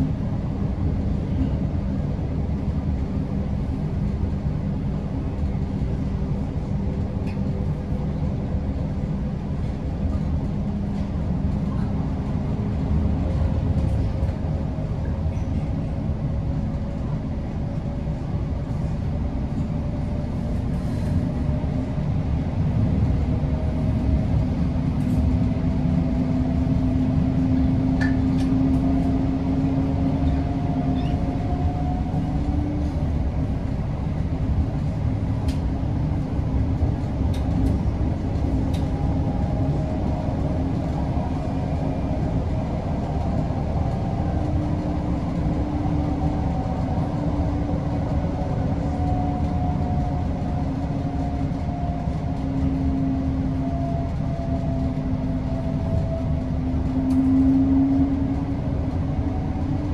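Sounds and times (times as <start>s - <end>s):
train motor hum: 0.0s - 59.9s
train wheels rumbling on rail: 0.0s - 59.9s.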